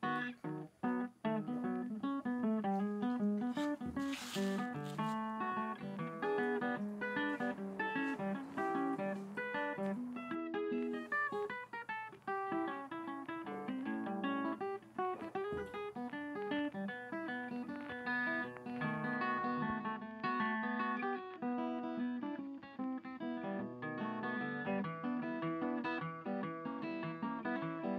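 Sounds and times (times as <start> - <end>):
acoustic guitar picking: 0.0 - 27.9.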